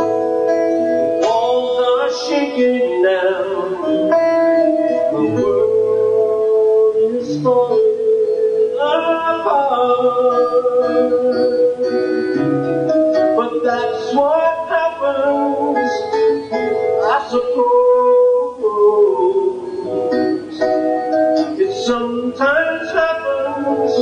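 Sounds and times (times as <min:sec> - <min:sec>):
live pop song: 0:00.0 - 0:24.0.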